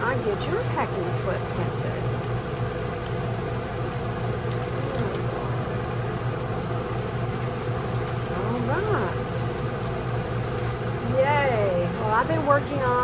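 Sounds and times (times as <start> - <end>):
plastic sleeve crinkling: 0.0 - 5.3, 6.6 - 13.0
low mechanical hum: 0.0 - 13.0.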